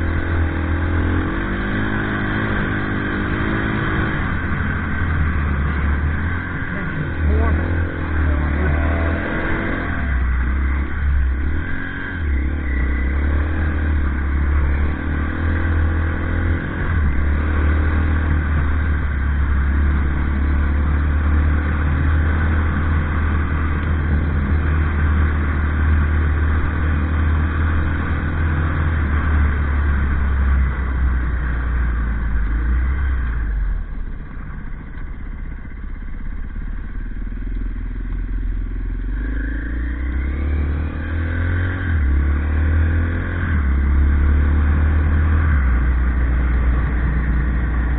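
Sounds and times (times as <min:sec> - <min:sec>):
heavy low rumble: 0:00.0 - 0:47.9
motorcycle engine running: 0:00.0 - 0:47.9.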